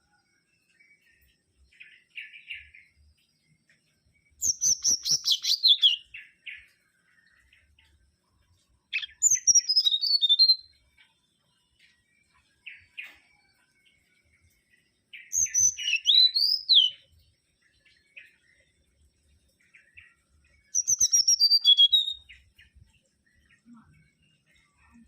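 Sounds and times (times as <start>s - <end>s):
bird singing: 0.0s - 25.0s.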